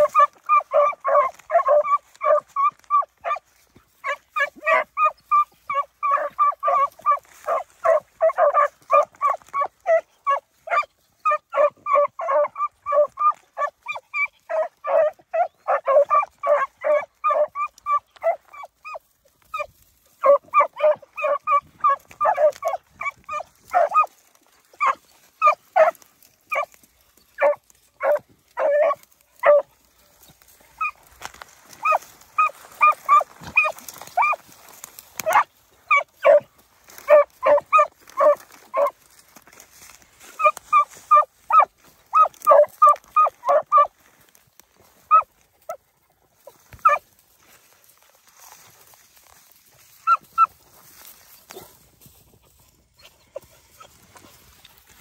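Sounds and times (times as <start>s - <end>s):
dogs barking: 0.0s - 39.1s, 40.4s - 44.3s, 45.1s - 45.8s, 46.8s - 47.0s, 50.0s - 50.6s.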